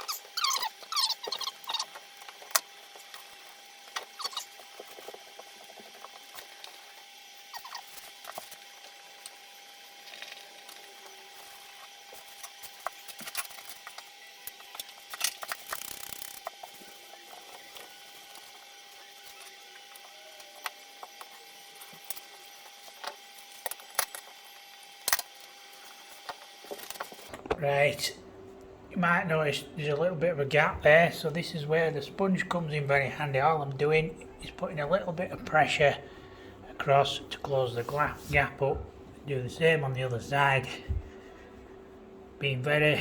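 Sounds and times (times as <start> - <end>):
faint high hum: 0.0 - 43.0.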